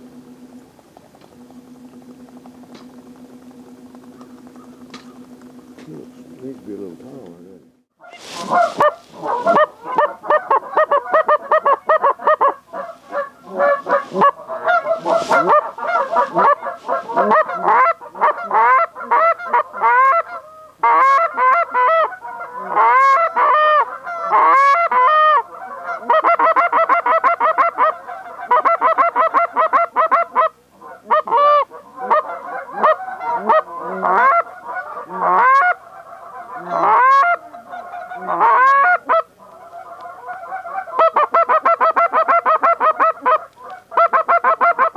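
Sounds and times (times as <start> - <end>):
geese honking: 0.0 - 44.9.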